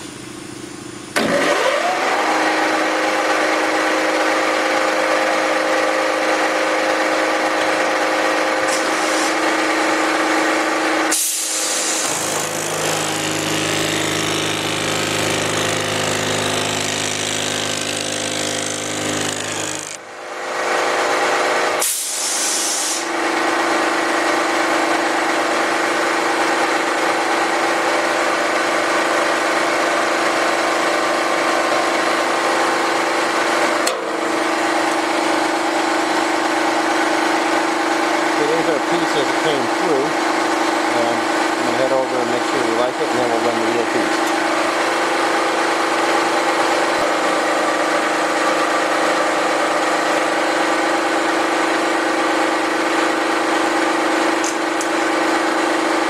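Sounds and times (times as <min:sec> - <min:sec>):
sheet metal machine running: 0:01.2 - 0:56.0.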